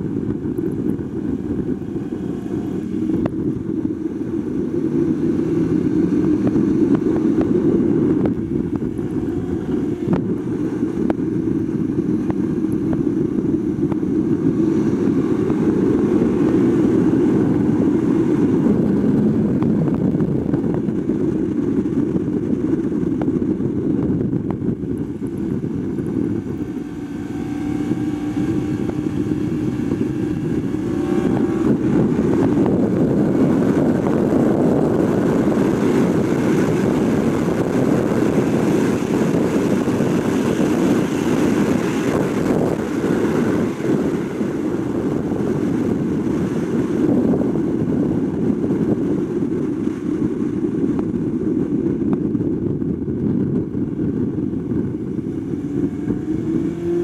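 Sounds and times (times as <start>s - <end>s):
motorcycle engine running hard: 0.0s - 57.0s
wind rush on microphone: 0.0s - 57.0s.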